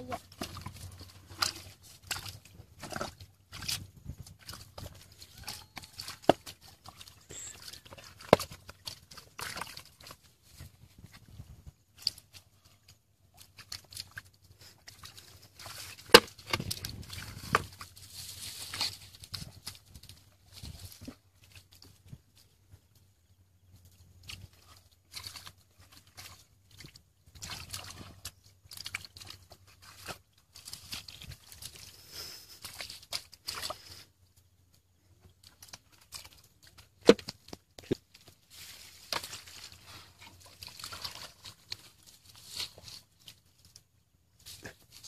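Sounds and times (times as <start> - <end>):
sloshing through muddy water: 0.0 - 45.0
small splashes and squelches: 0.0 - 45.0.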